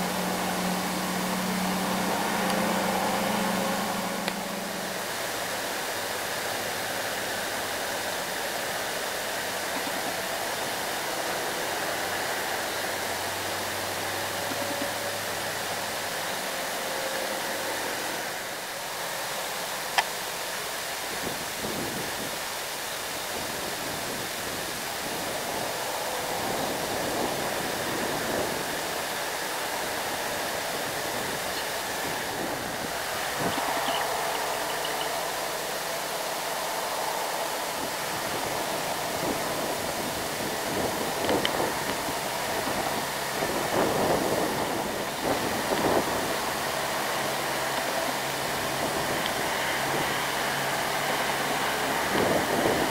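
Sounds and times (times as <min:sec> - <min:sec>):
distant diesel truck engines: 0:00.0 - 0:52.9
steady broad hiss: 0:00.0 - 0:52.9.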